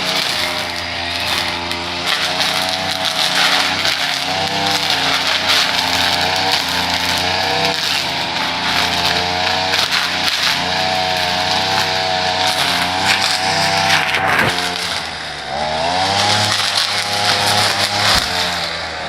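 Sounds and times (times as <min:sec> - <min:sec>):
small petrol engine running: 0:00.0 - 0:19.0.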